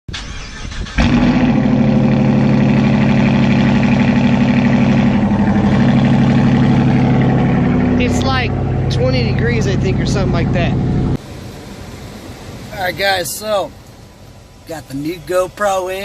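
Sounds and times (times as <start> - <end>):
car engine running: 1.0 - 16.0.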